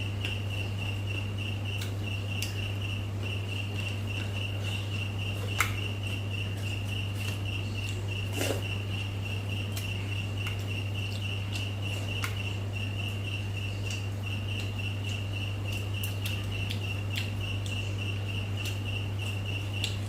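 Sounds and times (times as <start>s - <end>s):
constant low hum: 0.0s - 20.0s
cricket chirping: 0.0s - 20.0s.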